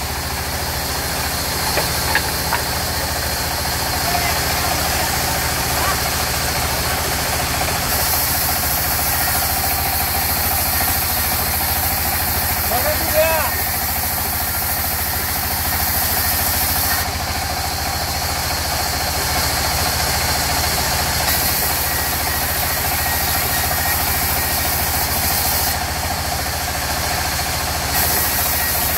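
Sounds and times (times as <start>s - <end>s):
band saw cutting timber: 0.0s - 28.9s.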